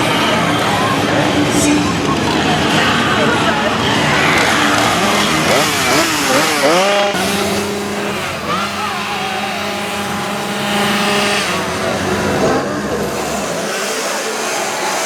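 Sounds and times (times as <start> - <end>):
chainsaw engine running: 0.0 - 15.0
voices: 0.0 - 15.0.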